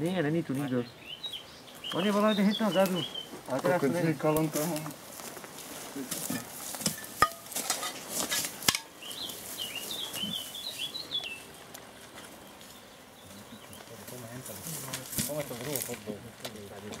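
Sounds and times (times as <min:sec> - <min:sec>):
movement through dry grass: 0:01.3 - 0:17.0.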